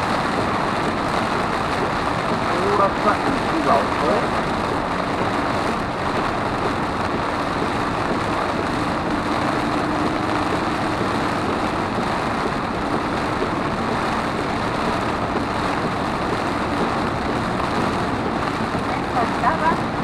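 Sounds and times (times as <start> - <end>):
rain on car: 0.0 - 20.0
tyres hissing on wet road: 0.0 - 20.0.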